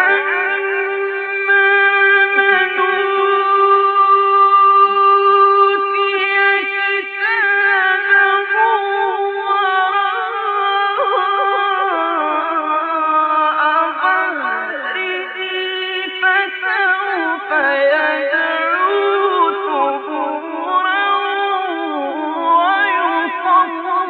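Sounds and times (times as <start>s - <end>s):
man chanting melodic recitation: 0.0s - 24.0s.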